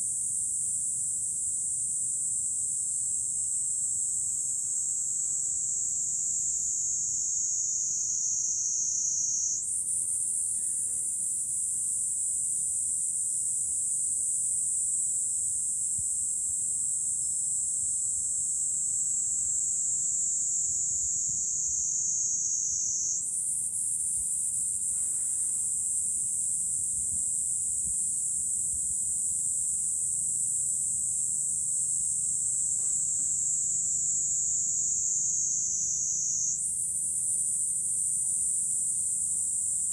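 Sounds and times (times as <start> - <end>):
cicadas singing: 3.6 - 15.0, 16.5 - 27.0, 28.2 - 39.9.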